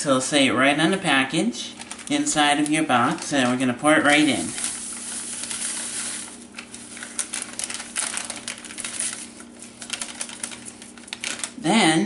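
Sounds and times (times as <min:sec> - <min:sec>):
plastic bag crinkling: 0:01.7 - 0:11.6.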